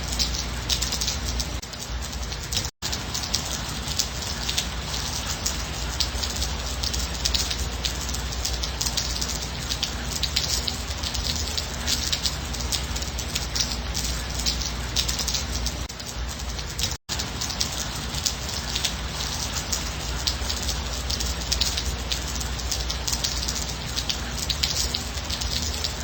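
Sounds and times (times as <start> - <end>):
gentle rain: 0.0 - 26.0.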